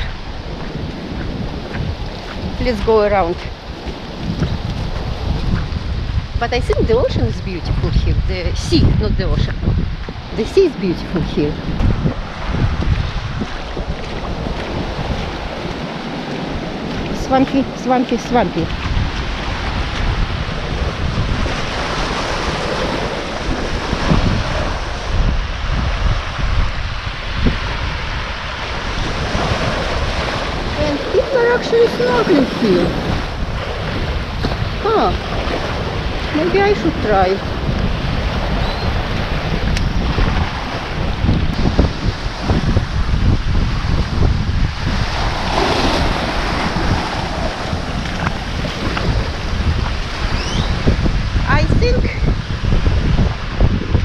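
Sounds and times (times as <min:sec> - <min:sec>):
small waves breaking on beach: 0:00.0 - 0:54.0
wind buffeting microphone: 0:00.0 - 0:54.0.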